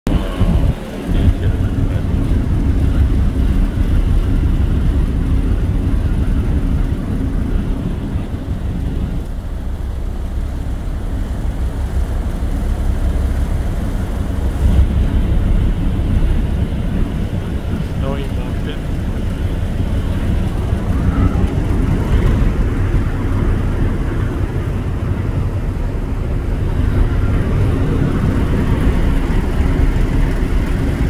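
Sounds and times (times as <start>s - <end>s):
churning wake: 0.1s - 31.0s
ship engines rumbling: 0.1s - 31.0s
wind buffeting microphone: 0.1s - 31.0s.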